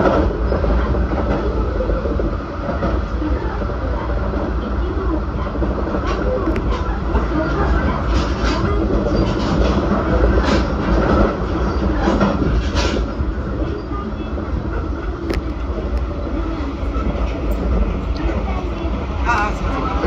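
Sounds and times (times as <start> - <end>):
track clacks: 0.0 - 20.0
train wheels rumbling on rails: 0.0 - 20.0.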